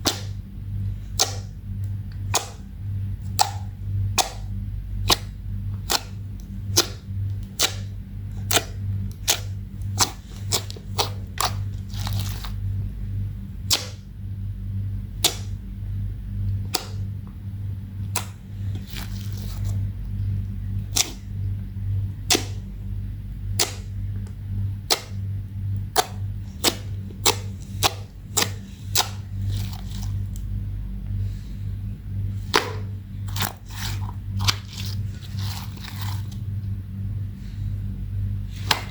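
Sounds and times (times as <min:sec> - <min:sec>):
slime being kneaded by hand: 0:00.0 - 0:14.2, 0:15.0 - 0:15.7, 0:16.4 - 0:36.8, 0:38.4 - 0:38.9
low hum: 0:00.0 - 0:38.9.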